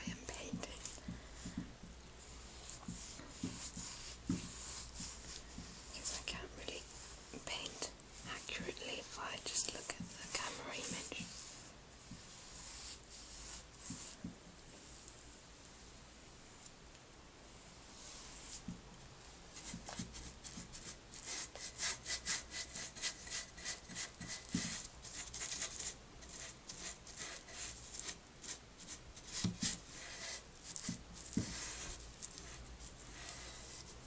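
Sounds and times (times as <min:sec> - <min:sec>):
paintbrush strokes on wood: 0:00.0 - 0:15.2, 0:17.9 - 0:18.8, 0:19.5 - 0:34.0.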